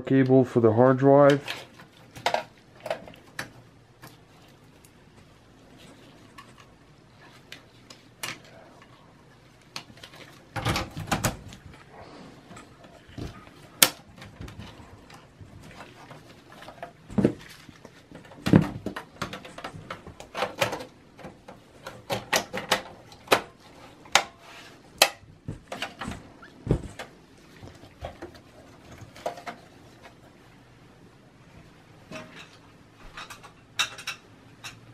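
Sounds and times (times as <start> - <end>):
cables being handled: 1.2 - 30.9.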